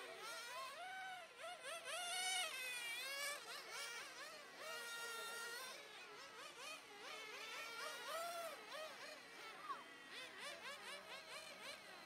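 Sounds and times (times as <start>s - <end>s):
toy car motors whining: 0.0s - 12.0s.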